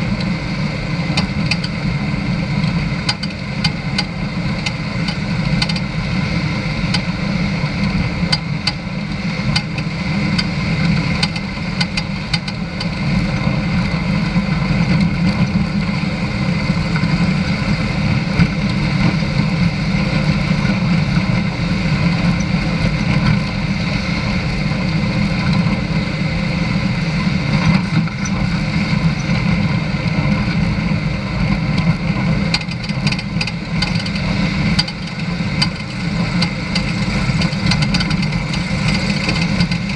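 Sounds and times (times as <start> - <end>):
road rumble: 0.0 - 39.9
vehicle engine drone: 0.0 - 39.9
gravel ticks and rattles: 1.0 - 39.9.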